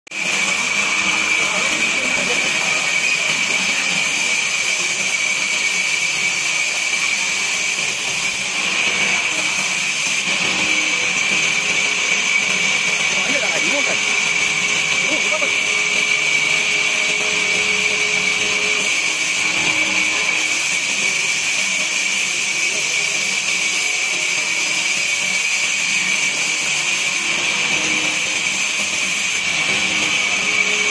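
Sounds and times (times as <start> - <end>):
band saw cutting timber: 0.1 - 30.9.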